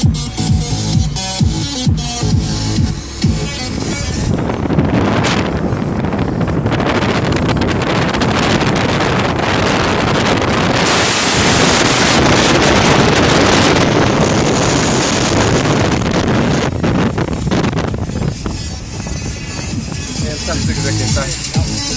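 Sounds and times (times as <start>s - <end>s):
car road noise: 0.0s - 21.9s
wind buffeting microphone: 0.0s - 21.9s.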